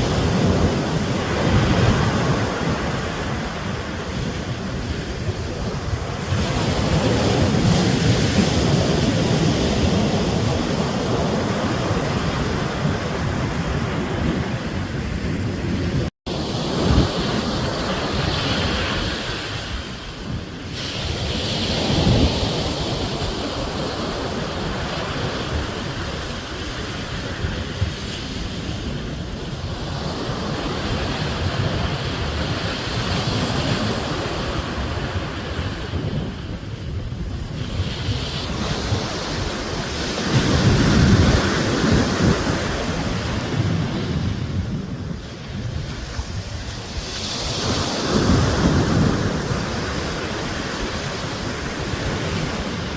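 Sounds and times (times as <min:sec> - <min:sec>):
waves breaking: 0:00.0 - 0:52.9
wind buffeting microphone: 0:00.0 - 0:52.9.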